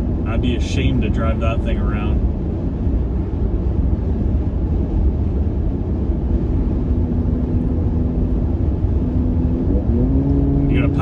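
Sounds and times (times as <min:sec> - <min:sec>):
car engine and road rumble: 0:00.0 - 0:11.0
steady droning tone: 0:00.0 - 0:11.0.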